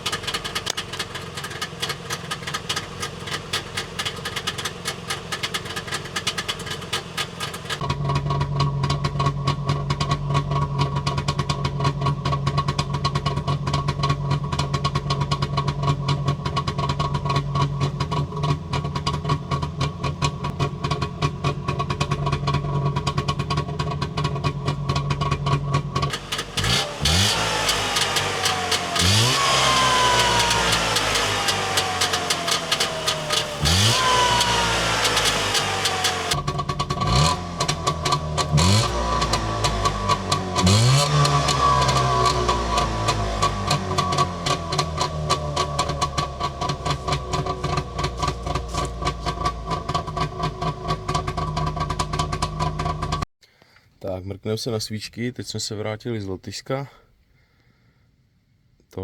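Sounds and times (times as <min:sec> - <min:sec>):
two-stroke engine idling and revving: 0:00.0 - 0:53.3.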